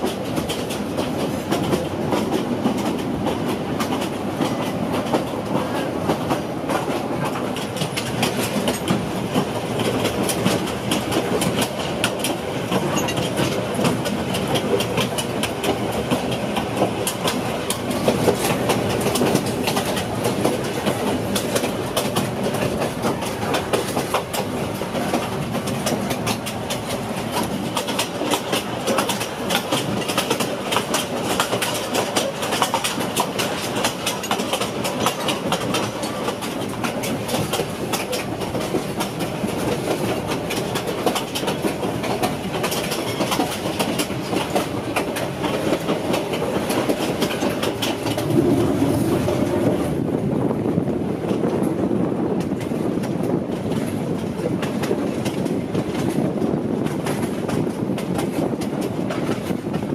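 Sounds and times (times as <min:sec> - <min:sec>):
deep train rumble: 0:00.0 - 0:59.9
train body rattling: 0:00.0 - 0:59.9
train wheels clattering over rails: 0:00.0 - 0:59.9.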